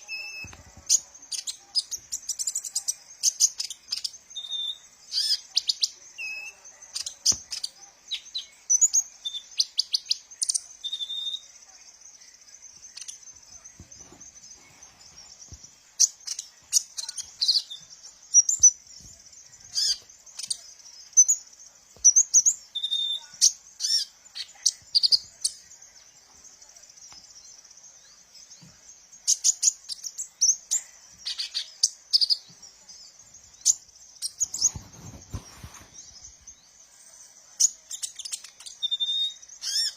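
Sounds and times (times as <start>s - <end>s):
sunbird chirping and trilling: 0.0s - 39.9s.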